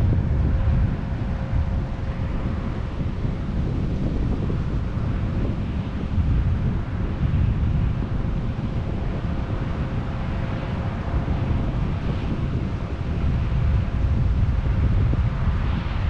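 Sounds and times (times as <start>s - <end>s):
combine harvester rumble: 0.0s - 16.0s.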